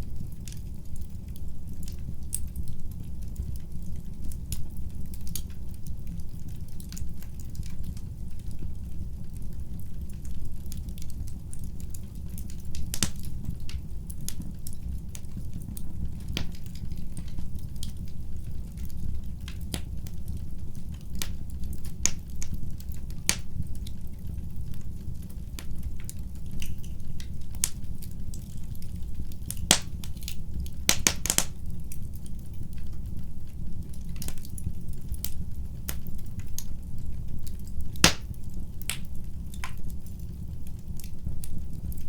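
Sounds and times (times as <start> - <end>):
fireplace fire crackling and popping: 0.0 - 42.0.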